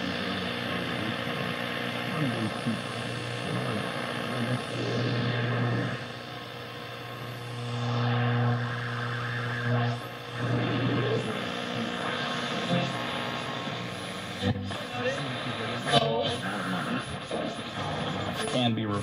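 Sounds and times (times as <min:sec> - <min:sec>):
radio static hiss: 0:00.0 - 0:19.0
steady low hum: 0:00.0 - 0:19.0.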